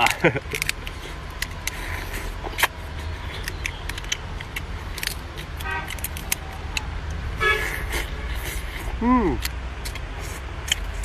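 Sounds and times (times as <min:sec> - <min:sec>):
person eating with mouth clicks: 0:00.0 - 0:11.0.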